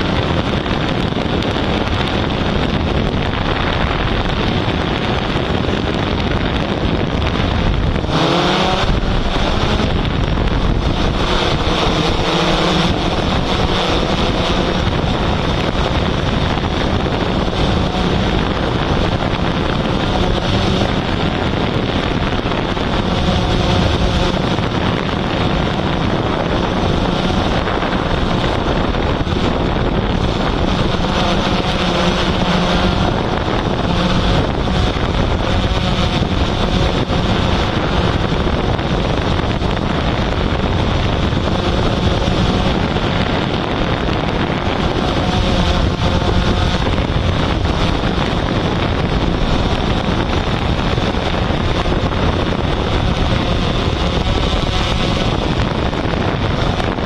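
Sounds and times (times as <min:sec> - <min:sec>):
drone propellers humming: 0:00.0 - 0:57.0
wind on microphone: 0:00.0 - 0:57.0.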